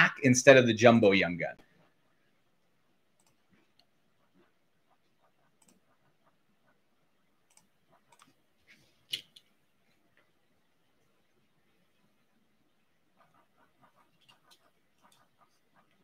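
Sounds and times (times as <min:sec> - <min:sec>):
faint clicks and taps: 0:03.0 - 0:16.0.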